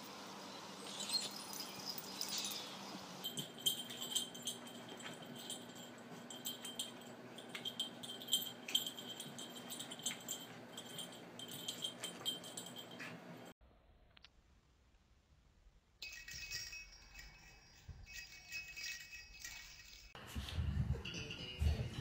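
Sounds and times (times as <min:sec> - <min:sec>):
small bell jingling: 0:00.9 - 0:13.6, 0:16.0 - 0:20.2, 0:21.0 - 0:22.0.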